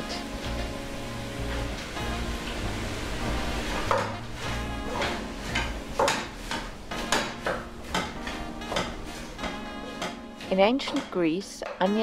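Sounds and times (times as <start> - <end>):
background music: 0.0 - 12.0
onions frying: 0.0 - 12.0.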